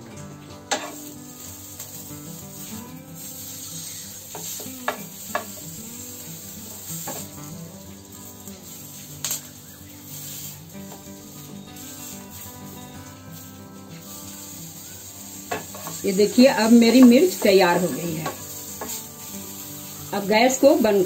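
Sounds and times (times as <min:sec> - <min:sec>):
chillies sizzling in hot oil: 0:00.0 - 0:21.0
faint background music: 0:00.0 - 0:21.0.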